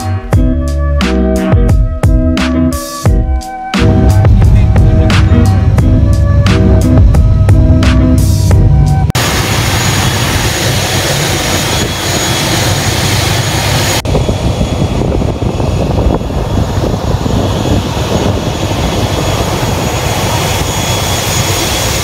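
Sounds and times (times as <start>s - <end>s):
high whine: 3.0s - 22.0s
turboprop engines running: 3.8s - 22.0s.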